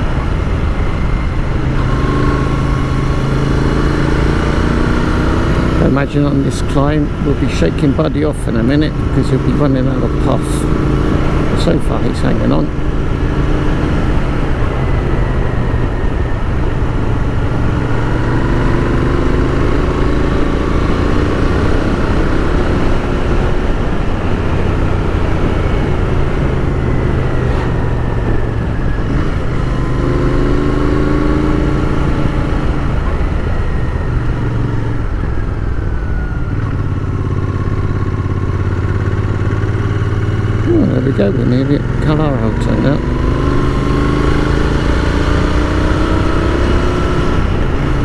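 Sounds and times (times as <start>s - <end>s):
motorcycle engine pulling uphill: 0.0s - 48.0s.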